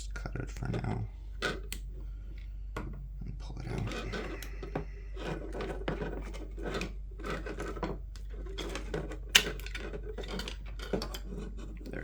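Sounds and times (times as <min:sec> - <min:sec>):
plastic parts rustling and scraping: 0:00.6 - 0:02.9, 0:03.6 - 0:12.0.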